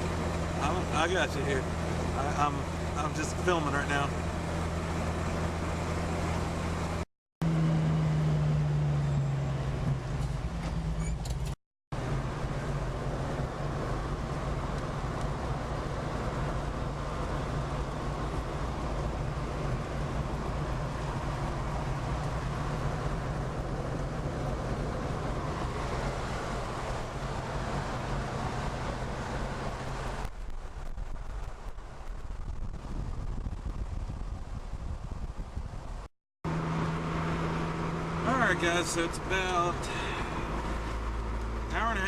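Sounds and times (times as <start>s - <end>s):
car engine running: 0.0s - 42.0s
tyre and road noise: 0.0s - 42.0s.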